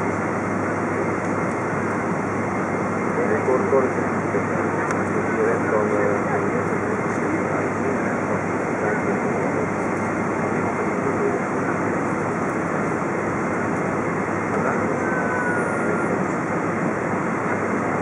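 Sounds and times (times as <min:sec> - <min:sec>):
jet engines at low thrust: 0:00.0 - 0:18.0.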